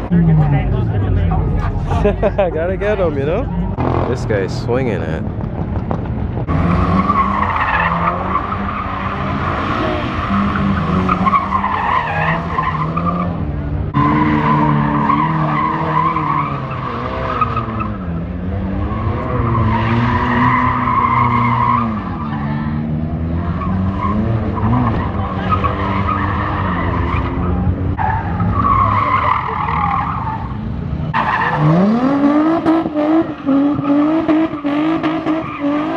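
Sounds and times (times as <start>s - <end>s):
car engine revving high: 0.0s - 35.9s.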